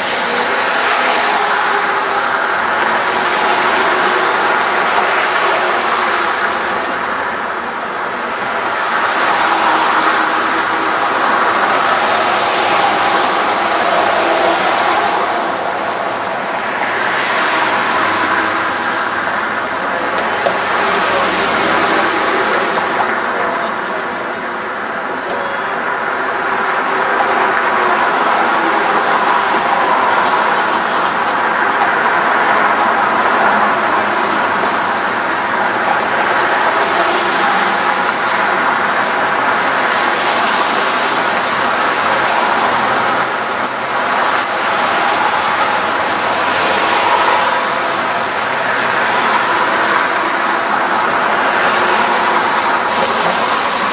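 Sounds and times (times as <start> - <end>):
cars passing close by: 0.0 - 53.9
city street traffic: 0.0 - 53.9.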